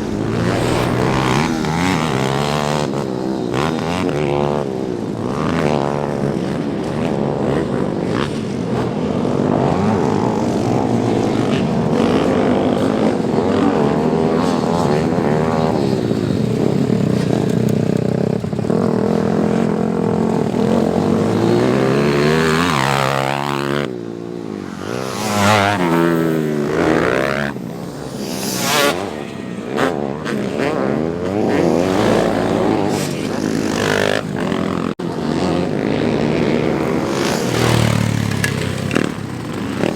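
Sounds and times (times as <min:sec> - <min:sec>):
small motorbike engines revving: 0:00.0 - 0:39.9.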